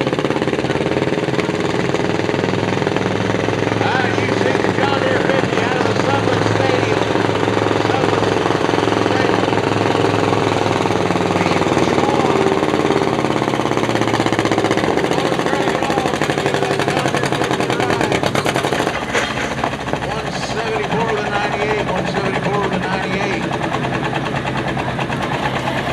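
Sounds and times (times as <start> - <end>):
tractor engine pulling under load: 0.0 - 25.9.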